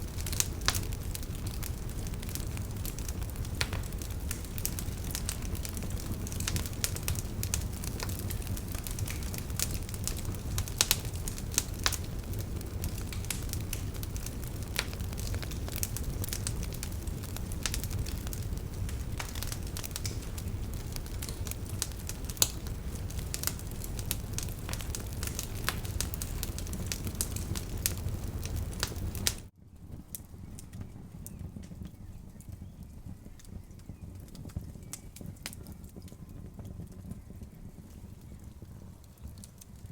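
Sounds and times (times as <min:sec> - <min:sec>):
campfire crackling: 0:00.0 - 0:39.9
fire pops and snaps: 0:00.0 - 0:39.9.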